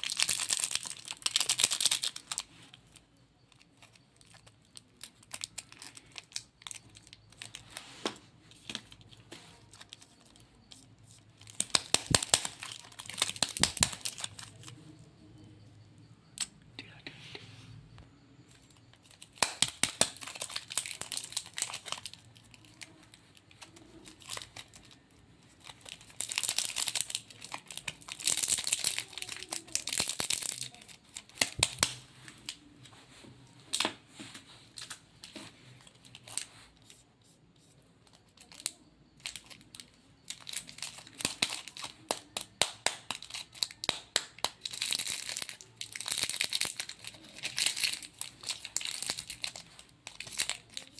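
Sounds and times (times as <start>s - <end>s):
candy wrapper crinkling and tearing: 0.0s - 7.9s, 8.5s - 15.0s, 18.5s - 32.8s, 34.7s - 37.0s, 37.6s - 50.9s.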